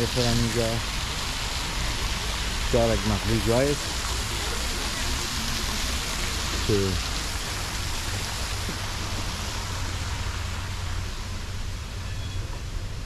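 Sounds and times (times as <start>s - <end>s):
rushing hiss: 0.0s - 13.0s.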